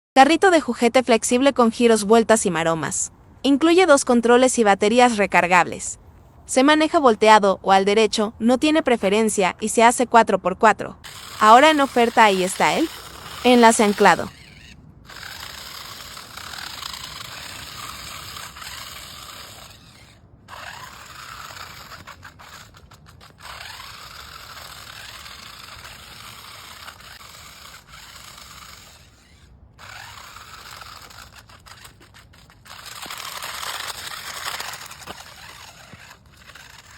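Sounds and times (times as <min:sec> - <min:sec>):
toy car motors whining: 0:02.6 - 0:10.0, 0:11.0 - 0:36.9.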